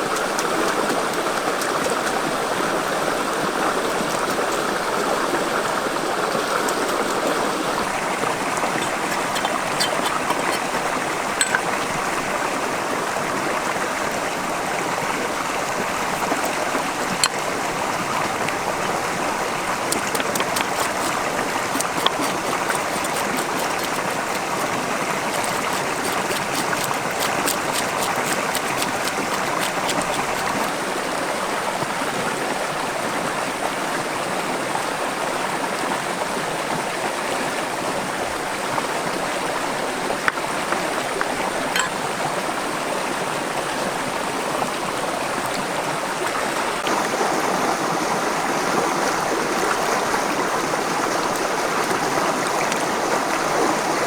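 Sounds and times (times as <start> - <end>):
running water rushing: 0.0 - 35.6, 36.7 - 54.0.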